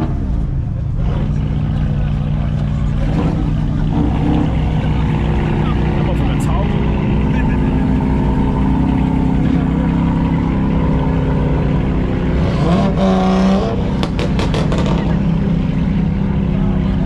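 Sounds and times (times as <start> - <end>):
car engines running: 0.0 - 17.0
engine revving: 0.0 - 17.0.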